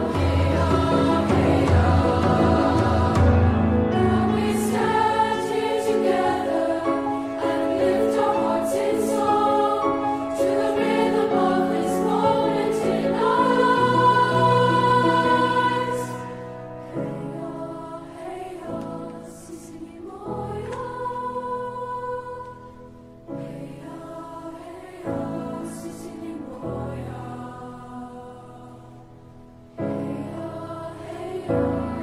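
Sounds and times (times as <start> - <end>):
choir singing long notes: 0.0 - 32.0.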